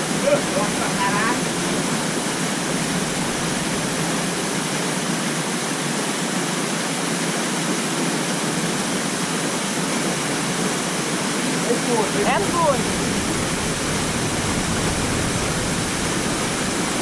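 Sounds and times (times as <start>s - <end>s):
small waterfall pouring into pool: 0.0s - 17.0s.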